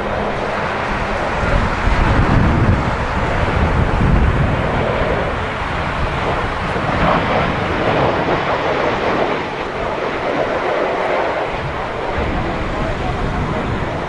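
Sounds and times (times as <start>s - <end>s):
jet airliner engine rushing: 0.0s - 14.0s
wind buffeting microphone: 0.0s - 14.0s.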